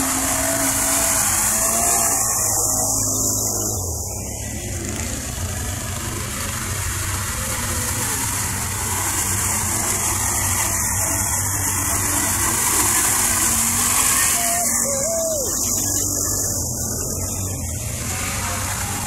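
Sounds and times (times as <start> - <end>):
atv engine running: 0.0 - 19.0
constant hiss: 0.0 - 19.0.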